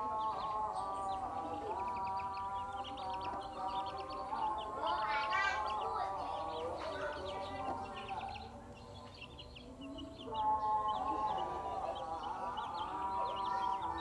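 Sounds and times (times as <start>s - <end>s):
chicks cheeping: 0.0s - 14.0s.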